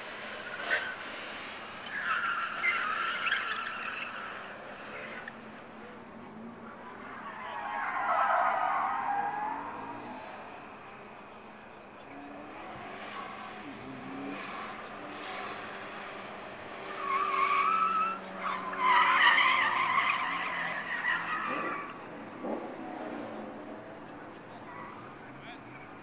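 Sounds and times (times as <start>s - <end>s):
tires squealing: 0.0s - 26.0s.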